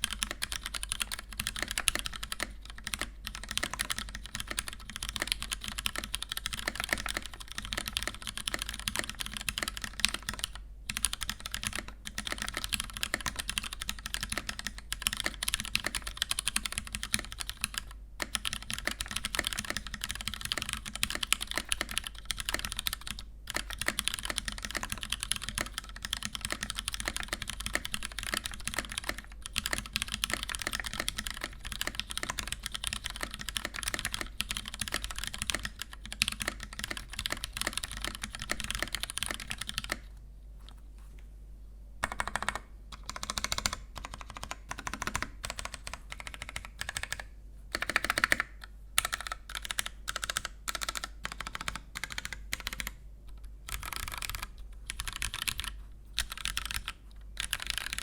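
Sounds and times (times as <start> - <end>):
mechanical keyboard typing: 0.0 - 40.8, 42.0 - 58.0.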